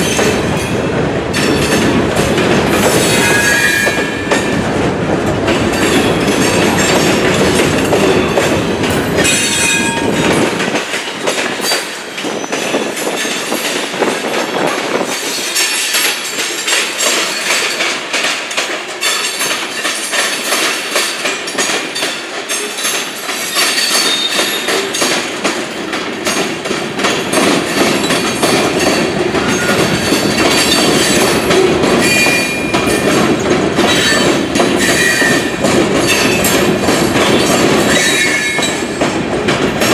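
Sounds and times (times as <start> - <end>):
railroad cars rumbling past: 0.0 - 39.9
wheels clattering over rail joints: 0.0 - 39.9.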